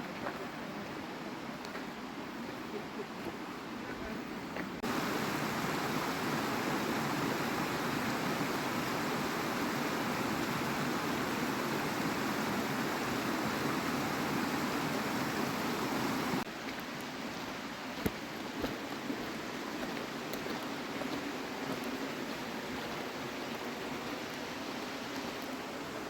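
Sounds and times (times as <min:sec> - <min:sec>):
river water rushing: 0:00.1 - 0:26.0.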